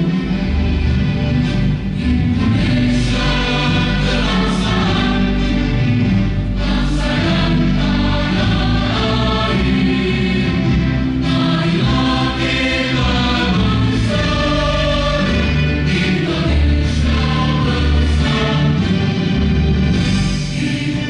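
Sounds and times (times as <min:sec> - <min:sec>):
choir singing with instruments: 0:00.0 - 0:21.0.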